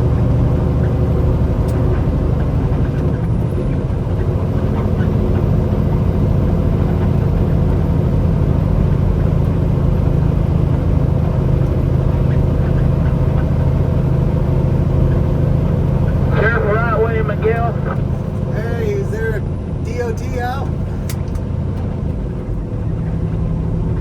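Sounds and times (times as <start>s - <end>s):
diesel truck engine running: 0.0s - 24.0s
road noise: 0.0s - 24.0s.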